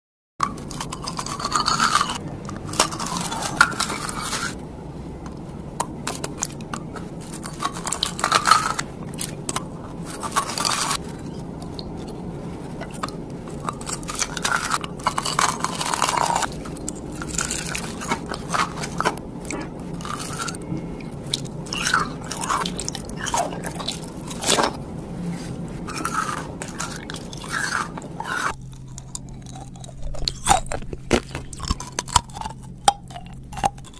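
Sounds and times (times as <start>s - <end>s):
chewing: 0.4s - 4.6s, 5.2s - 33.9s
crunching hard candy: 0.4s - 4.6s, 5.3s - 33.9s.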